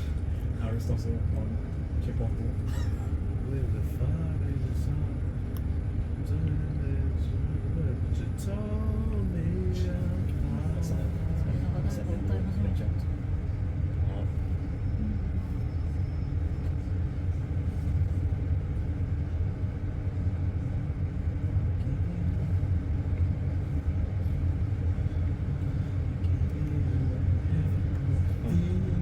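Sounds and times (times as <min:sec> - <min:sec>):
road vehicle rumble: 0:00.0 - 0:29.0.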